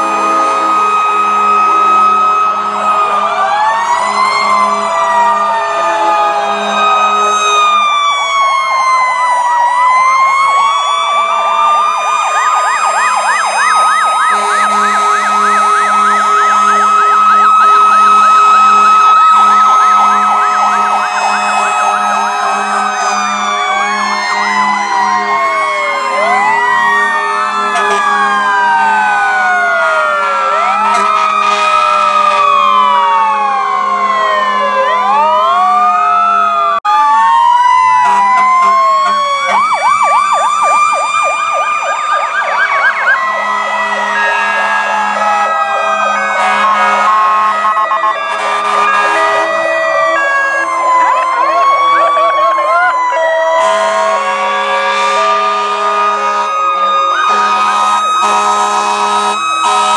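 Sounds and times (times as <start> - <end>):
fast siren yelp: 0.0 - 59.9
fire truck sirens wailing: 0.0 - 59.9.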